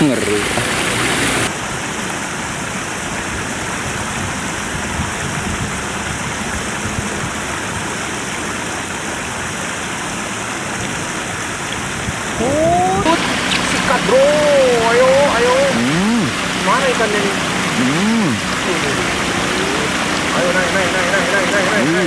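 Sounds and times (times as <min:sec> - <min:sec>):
water rushing over weir: 0:00.0 - 0:22.0.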